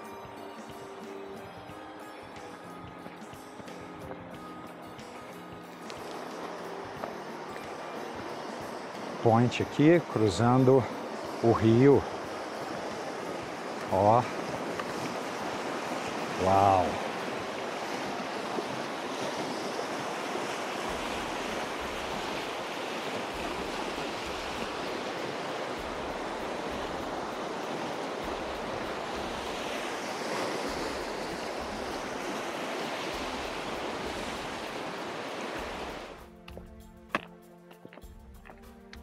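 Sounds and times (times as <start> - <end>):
river rapids rushing: 0.0 - 36.3.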